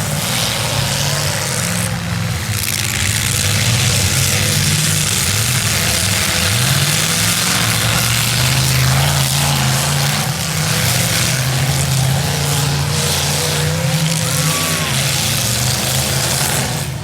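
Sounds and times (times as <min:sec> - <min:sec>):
car engines revving loudly: 0:00.0 - 0:17.0.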